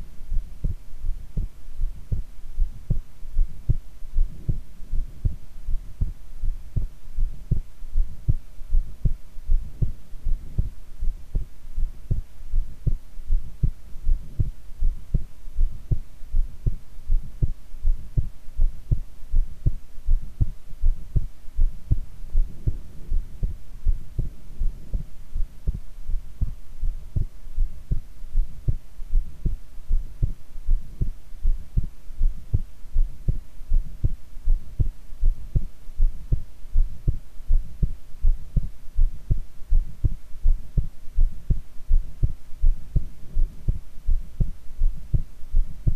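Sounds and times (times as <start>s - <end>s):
faint steady hum: 0.0s - 45.9s
heartbeat thuds: 0.0s - 45.9s.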